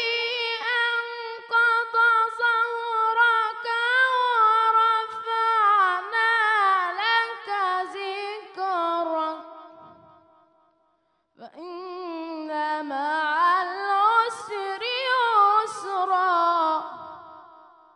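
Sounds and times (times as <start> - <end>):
boy reciting melodically: 0.0 - 9.8, 11.4 - 17.5.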